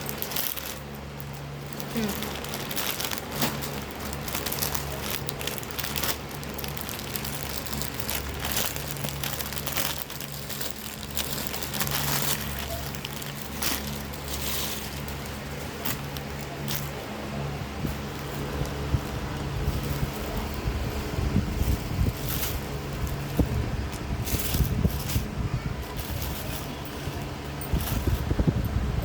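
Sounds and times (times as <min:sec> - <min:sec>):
packaging crinkling and rustling: 0:00.0 - 0:28.6.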